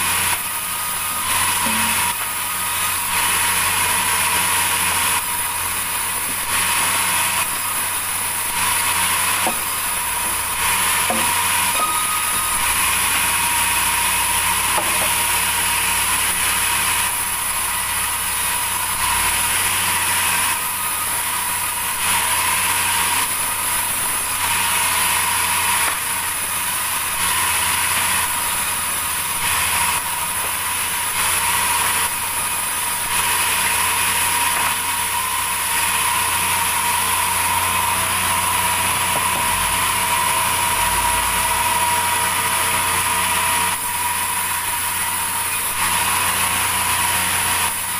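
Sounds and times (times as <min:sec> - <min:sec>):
power saw cutting timber: 0:00.0 - 0:47.9.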